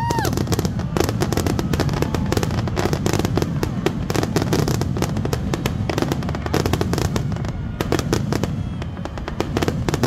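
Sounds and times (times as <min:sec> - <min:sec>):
fireworks bangs and crackling: 0:00.0 - 0:10.0.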